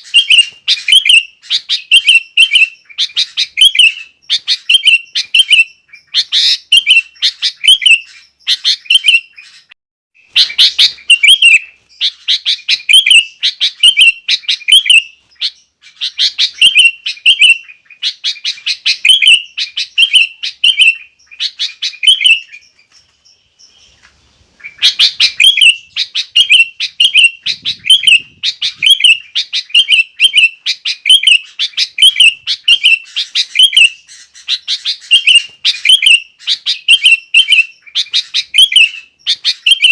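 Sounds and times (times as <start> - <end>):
bulbul singing repeated chirps: 0.0 - 24.0, 24.6 - 39.9.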